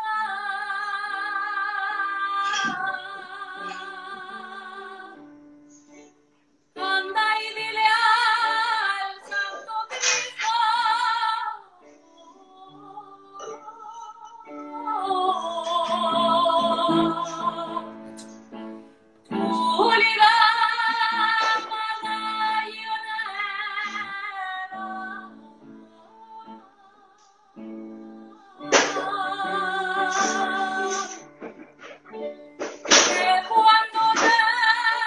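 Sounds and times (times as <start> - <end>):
woman singing with vibrato: 0.0 - 5.3, 6.8 - 18.1, 19.3 - 31.4, 33.0 - 35.0
piano: 0.0 - 35.0.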